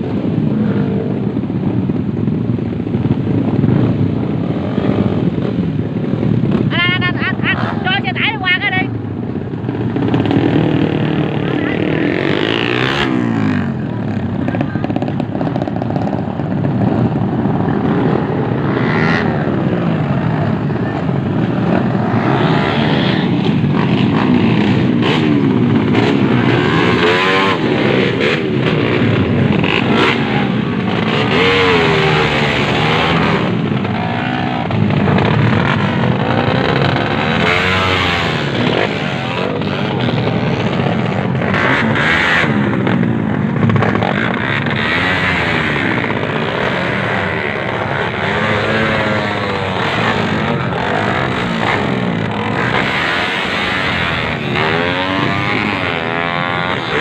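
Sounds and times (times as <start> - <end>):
motorcycle engines revving and passing: 0.0 - 57.0.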